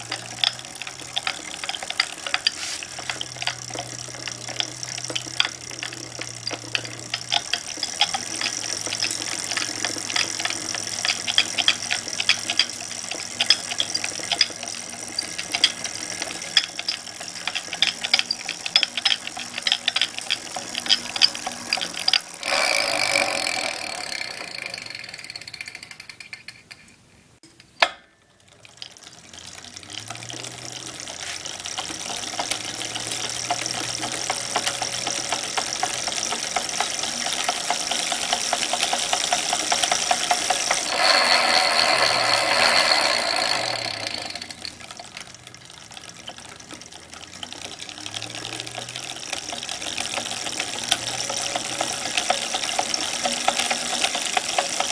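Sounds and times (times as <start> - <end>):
bike drivetrain ticking and knocking: 0.0 - 54.9.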